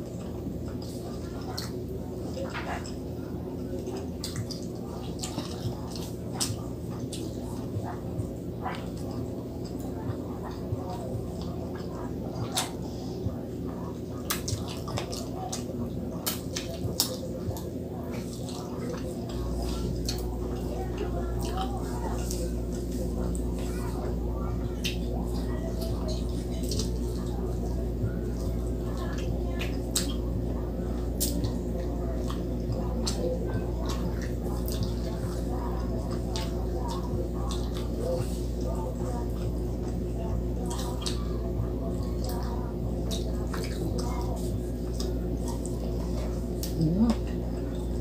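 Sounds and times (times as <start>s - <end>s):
chewing and lip-smacking: 0.0s - 48.0s
steady low hum: 0.0s - 48.0s.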